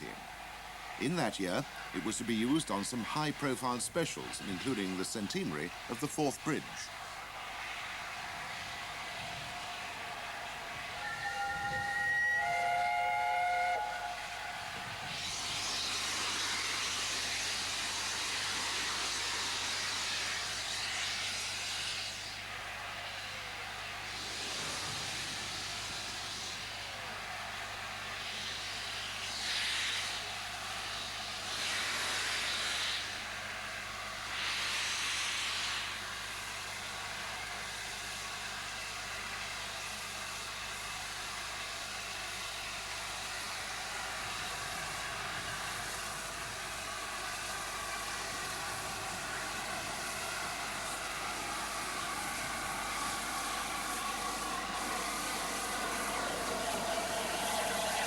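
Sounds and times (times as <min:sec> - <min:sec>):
steam hiss bursts: 0:00.0 - 0:58.0
steam locomotive running: 0:00.0 - 0:58.0.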